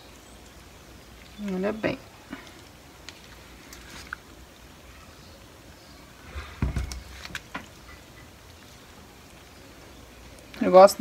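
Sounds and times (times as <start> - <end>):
water trickling into soil: 0.0 - 11.0.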